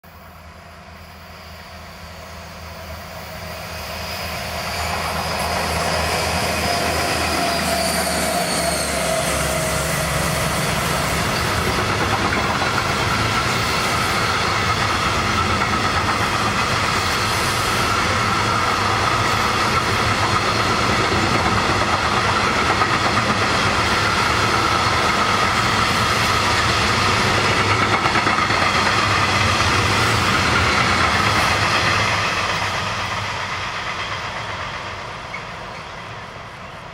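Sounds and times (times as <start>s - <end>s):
diesel locomotive engines droning: 0.0s - 36.9s
high steady wheel squeal: 0.1s - 36.9s.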